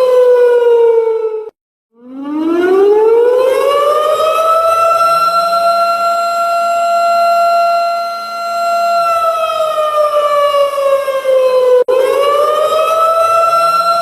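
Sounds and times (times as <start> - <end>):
siren sliding in pitch: 0.0 - 14.0.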